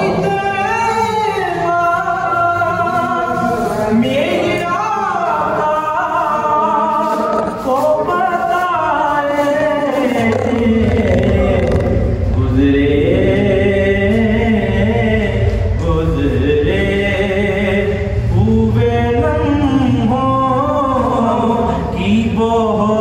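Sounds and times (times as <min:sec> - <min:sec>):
man singing devotional song: 0:00.0 - 0:23.0.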